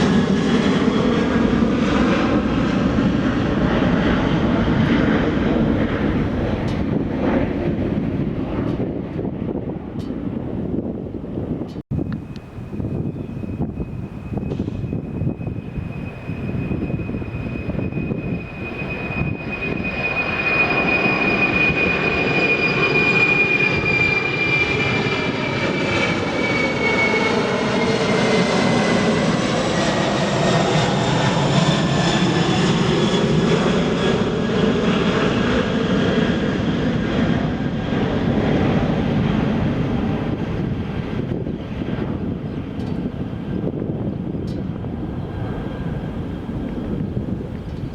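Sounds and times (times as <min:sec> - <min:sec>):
jet airliner passing: 0:00.0 - 0:47.9
jet engine high whine: 0:00.0 - 0:47.9.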